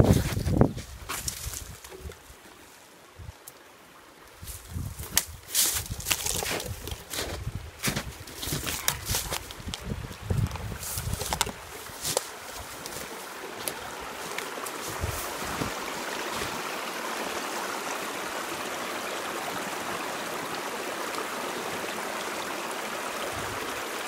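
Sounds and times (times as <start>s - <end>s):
water running in a creek: 0.0s - 24.0s.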